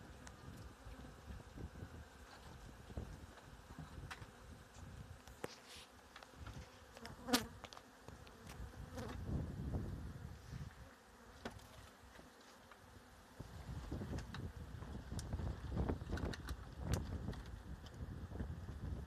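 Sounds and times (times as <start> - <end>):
honeybees buzzing: 0.0 - 17.3.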